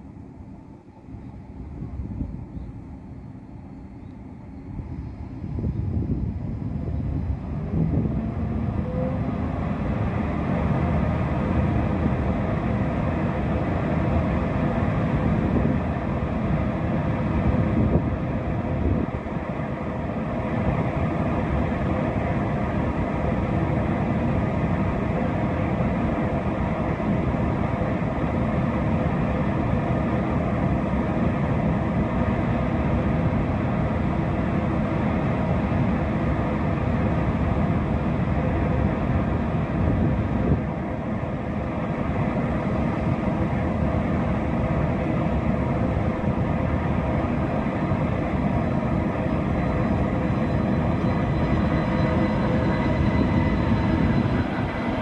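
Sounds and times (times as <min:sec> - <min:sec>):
train cooling fans humming: 0:00.0 - 0:55.0.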